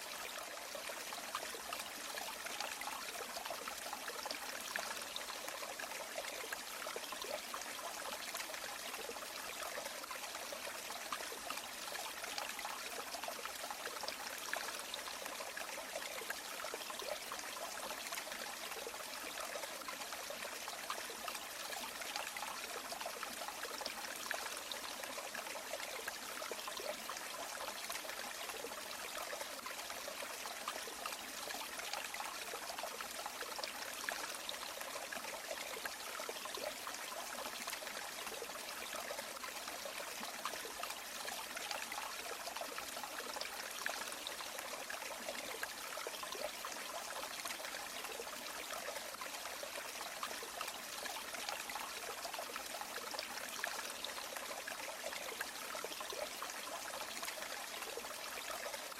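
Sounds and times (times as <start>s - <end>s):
stream flowing and trickling: 0.0s - 58.9s.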